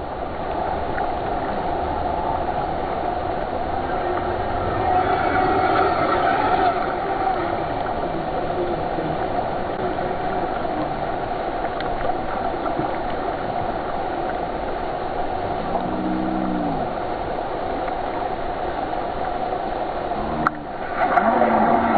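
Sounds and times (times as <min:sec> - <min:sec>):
rushing gurgling water: 0:00.0 - 0:21.9.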